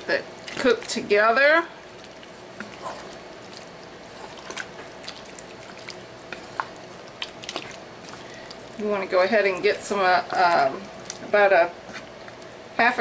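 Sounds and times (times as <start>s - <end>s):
food simmering hiss: 0.0s - 13.0s
wet stirring in a pan: 0.0s - 13.0s.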